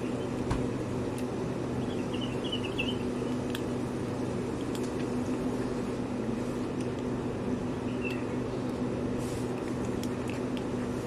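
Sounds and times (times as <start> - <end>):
low machine hum: 0.0 - 11.0
cats crunching dry kibble: 0.2 - 11.0.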